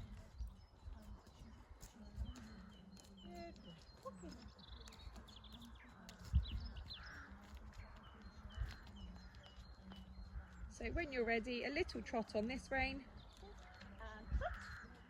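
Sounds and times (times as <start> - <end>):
horse hooves thudding: 0.0 - 15.0
small birds chirping: 0.0 - 15.0.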